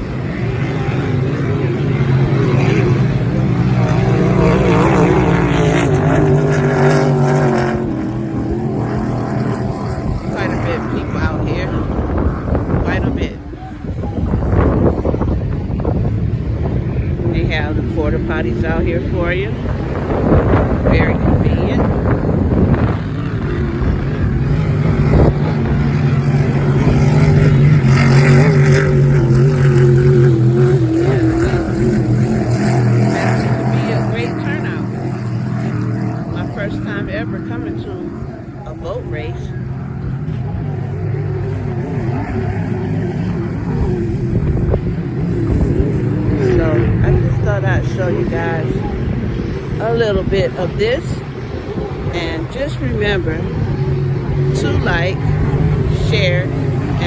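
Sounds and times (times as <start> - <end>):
powerboat engine running hard: 0.0 - 57.0.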